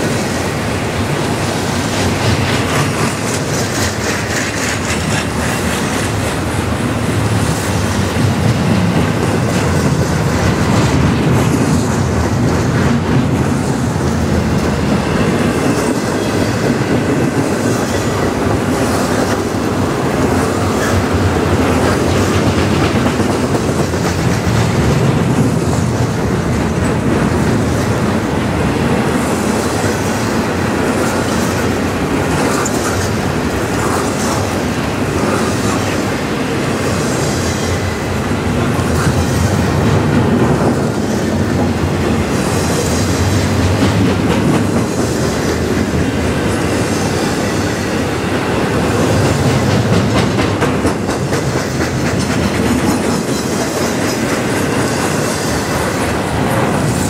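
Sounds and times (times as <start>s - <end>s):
freight train rumbling past: 0.0s - 57.0s
wheels clacking over rail joints: 0.0s - 57.0s.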